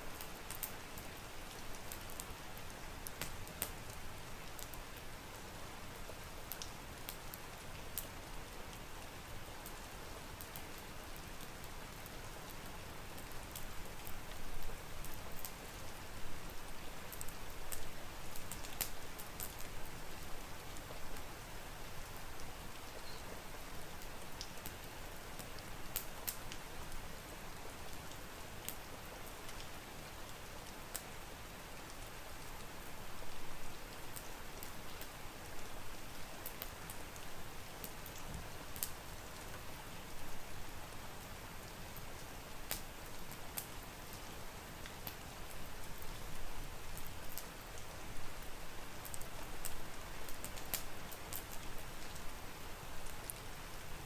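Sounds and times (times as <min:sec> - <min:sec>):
steady rain: 0:00.0 - 0:54.0
wood fire crackling: 0:00.1 - 0:54.0.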